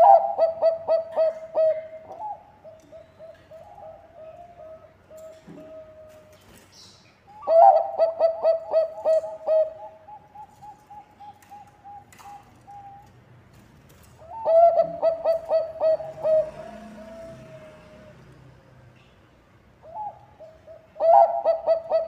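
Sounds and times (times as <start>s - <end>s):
dove cooing: 0.0s - 6.6s, 7.3s - 13.1s, 14.2s - 18.2s, 19.8s - 22.0s.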